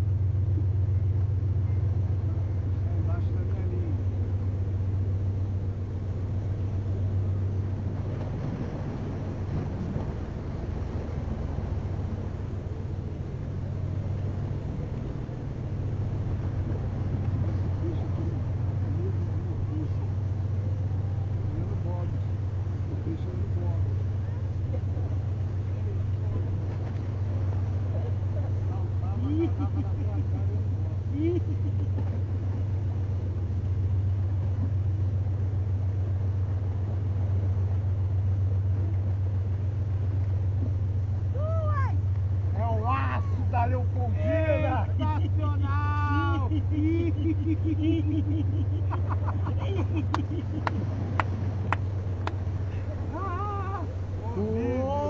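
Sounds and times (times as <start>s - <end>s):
engine humming: 0.0s - 55.0s.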